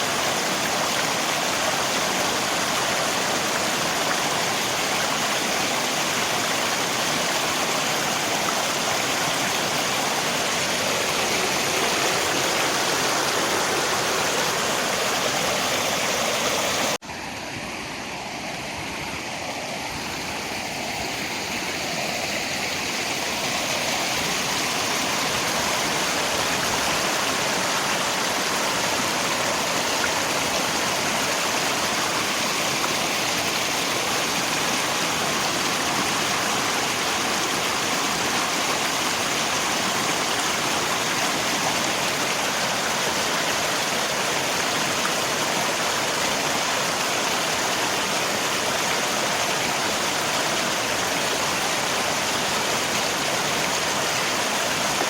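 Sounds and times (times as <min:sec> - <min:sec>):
rain: 0:00.0 - 0:55.0
river water rushing: 0:00.0 - 0:55.0.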